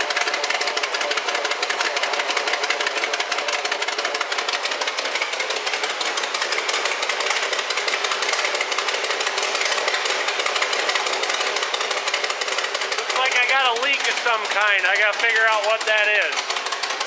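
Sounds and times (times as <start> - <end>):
car engine running: 0.0 - 17.0
exhaust leak chatter: 0.0 - 17.0.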